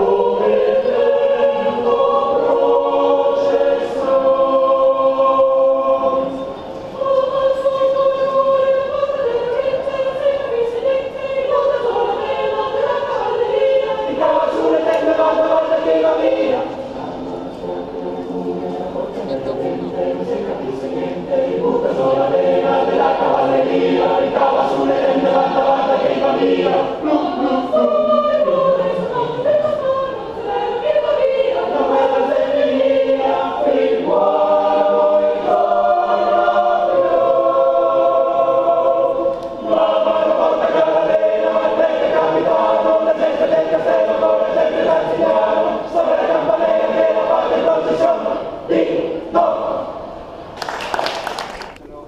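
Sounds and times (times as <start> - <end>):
choir singing a cappella: 0.0 - 50.6.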